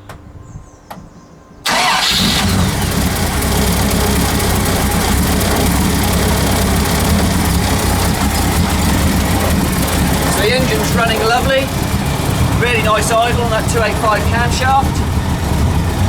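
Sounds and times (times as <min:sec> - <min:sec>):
car engine starting and idling: 0:01.6 - 0:16.0.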